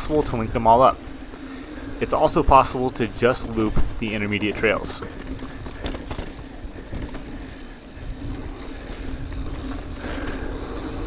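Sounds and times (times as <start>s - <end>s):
bike rolling on trail: 0.0s - 11.0s
wind rumble on microphone: 0.0s - 11.0s.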